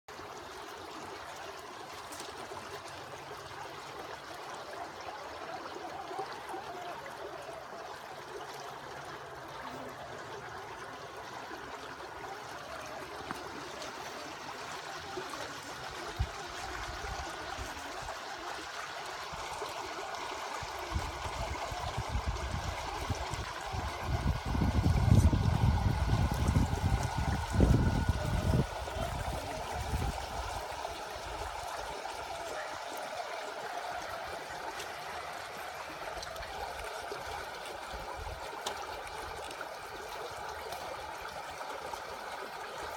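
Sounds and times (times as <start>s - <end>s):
river water running over rocks: 0.1s - 42.9s.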